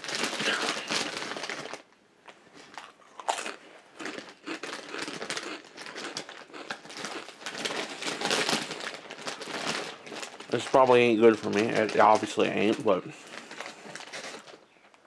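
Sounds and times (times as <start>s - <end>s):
chips crunching: 0.0s - 14.6s
chip bag crinkling: 0.0s - 15.0s.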